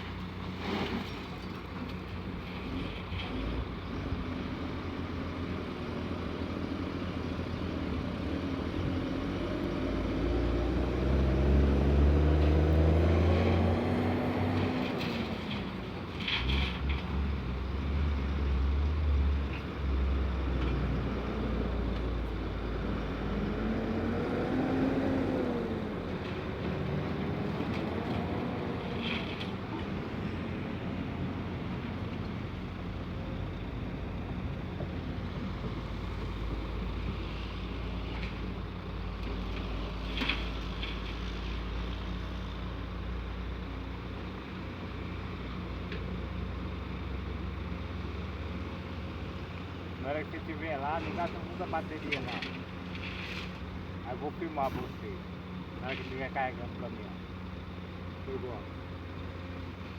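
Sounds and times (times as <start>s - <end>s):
truck diesel engine rumbling: 0.0s - 59.9s.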